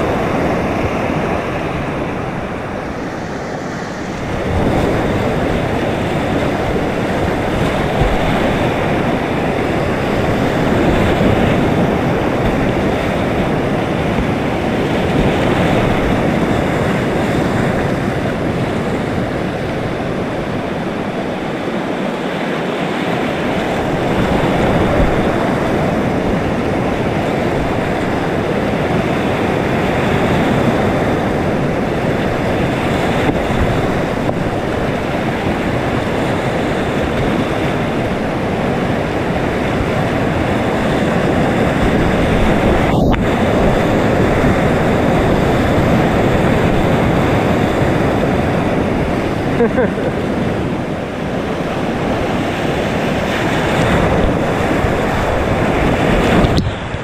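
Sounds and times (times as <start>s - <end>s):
river rapids rushing: 0.0s - 57.0s.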